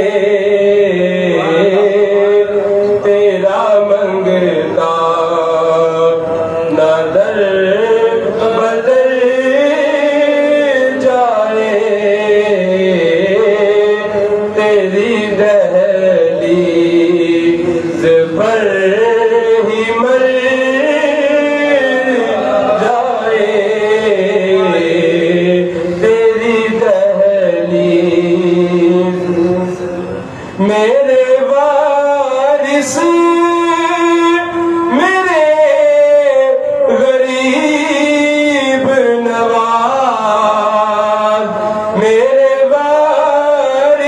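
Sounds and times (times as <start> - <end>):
man singing devotional poem: 0.0 - 44.0.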